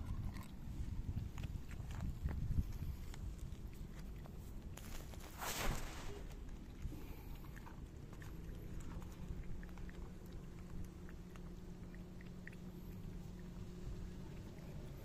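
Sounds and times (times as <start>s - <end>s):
cat lapping milk: 0.0s - 5.4s, 6.1s - 15.0s
low steady hum: 0.0s - 15.0s.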